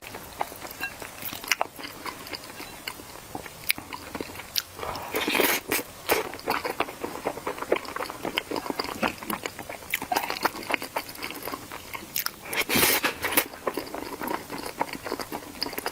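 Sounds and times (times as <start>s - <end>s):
crunchy chewing of food: 0.0s - 15.9s.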